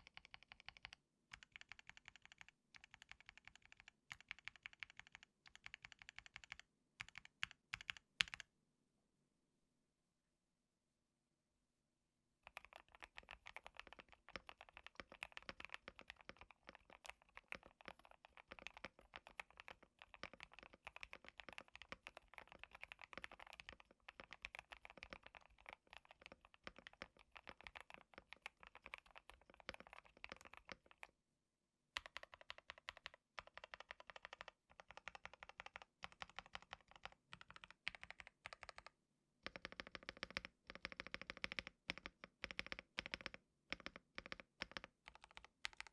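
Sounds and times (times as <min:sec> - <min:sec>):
fast mechanical keyboard typing: 0:00.0 - 0:08.4, 0:12.5 - 0:31.1, 0:32.0 - 0:38.9, 0:39.5 - 0:45.9.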